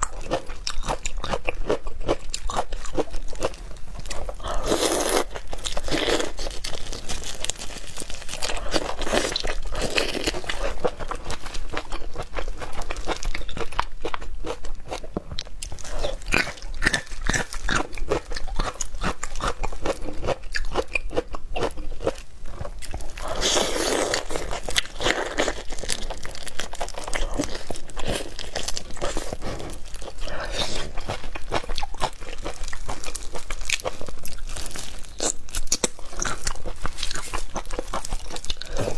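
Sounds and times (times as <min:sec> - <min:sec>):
person crunching and chewing: 0:00.0 - 0:38.9.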